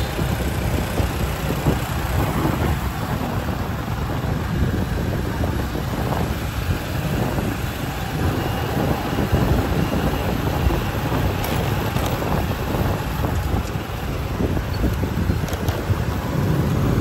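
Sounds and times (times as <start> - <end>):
street traffic noise: 0.0 - 17.0
wind buffeting microphone: 0.0 - 17.0.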